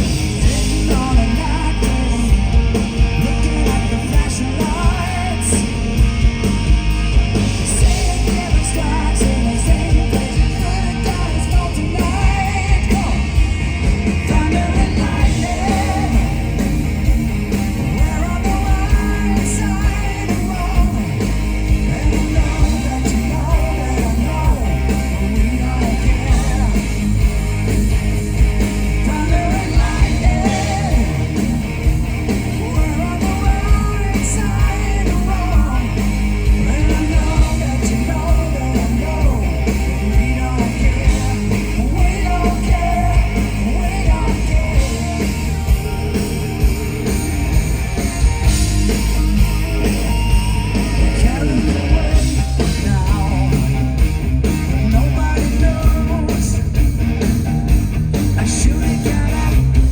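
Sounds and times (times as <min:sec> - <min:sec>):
man singing: 0:00.0 - 0:06.1, 0:07.6 - 0:17.0, 0:17.8 - 0:27.2, 0:29.0 - 0:31.6, 0:32.4 - 0:47.1, 0:50.9 - 0:54.0, 0:54.8 - 0:56.8, 0:58.4 - 0:59.9
bass guitar: 0:00.0 - 0:59.9
drums keeping steady beat: 0:00.0 - 0:59.9
electric guitars: 0:00.0 - 0:59.9
hard rock band playing: 0:00.0 - 0:59.9.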